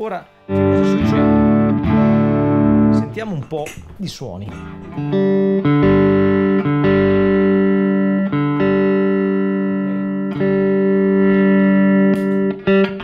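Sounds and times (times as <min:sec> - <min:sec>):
electric guitar chords strummed: 0:00.0 - 0:13.0.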